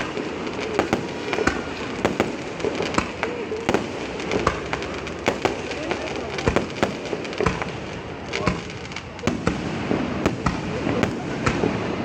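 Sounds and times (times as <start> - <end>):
firework crackling hiss: 0.0 - 12.0
fireworks bangs: 0.0 - 12.0.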